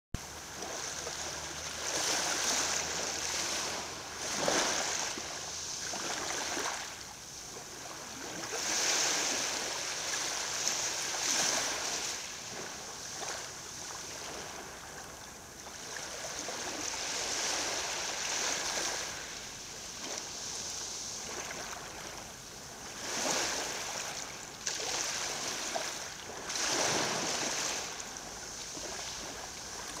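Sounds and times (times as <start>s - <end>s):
small waves lapping on gravel: 0.5s - 30.0s.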